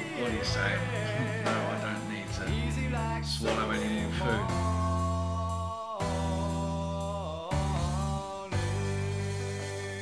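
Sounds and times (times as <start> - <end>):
person singing a song: 0.0 - 10.0.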